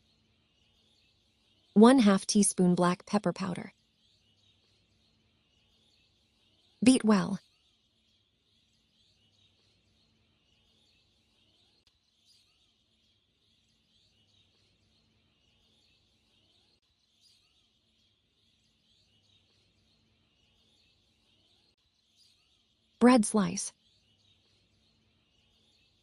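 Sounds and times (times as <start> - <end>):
faint bird chirps: 4.0 - 26.0.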